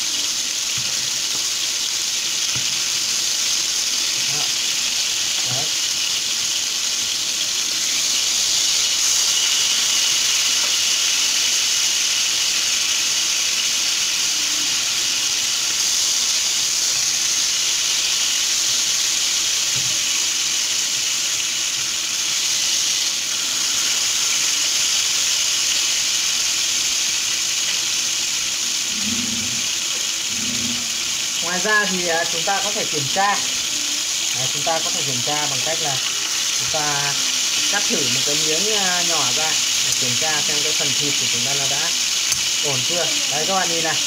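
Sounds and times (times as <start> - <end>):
steak sizzling in a frying pan: 0.0 - 44.0.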